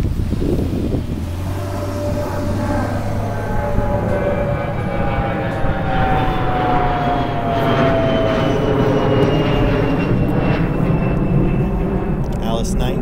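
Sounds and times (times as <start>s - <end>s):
airplane flying over: 0.0s - 13.0s.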